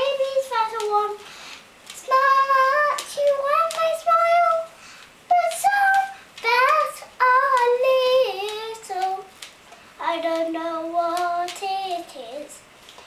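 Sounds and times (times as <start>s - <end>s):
girl singing unaccompanied: 0.0s - 12.8s.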